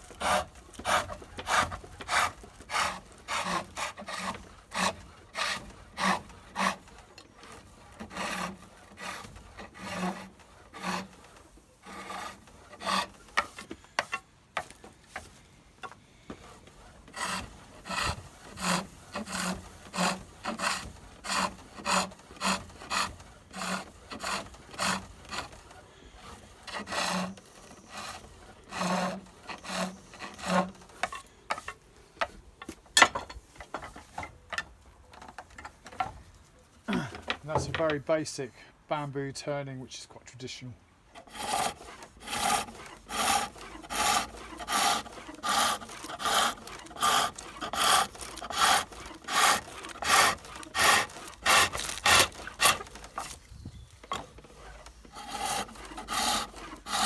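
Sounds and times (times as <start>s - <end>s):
chisel cutting spinning wood: 0.0s - 14.7s, 16.4s - 31.2s, 37.0s - 38.1s, 41.2s - 57.0s.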